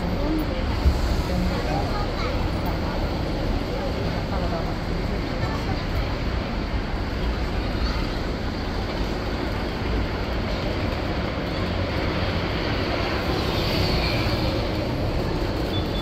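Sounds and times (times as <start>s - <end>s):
electric tram rumbling on rails: 0.0s - 16.0s.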